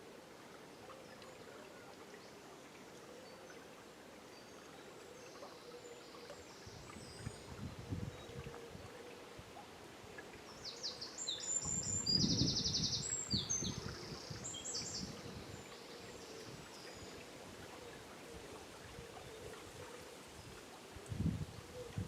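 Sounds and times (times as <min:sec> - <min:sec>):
river flowing: 0:00.0 - 0:12.0, 0:12.9 - 0:21.7.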